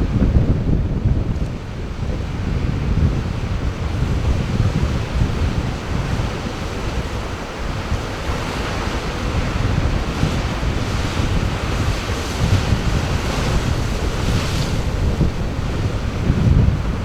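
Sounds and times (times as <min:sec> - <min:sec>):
sea surf washing: 0:00.0 - 0:17.0
wind buffeting microphone: 0:00.0 - 0:17.0.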